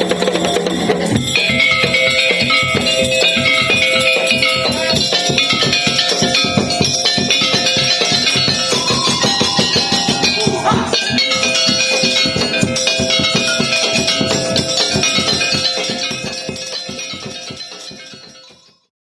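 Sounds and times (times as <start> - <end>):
percussion ensemble playing: 0.0 - 18.9.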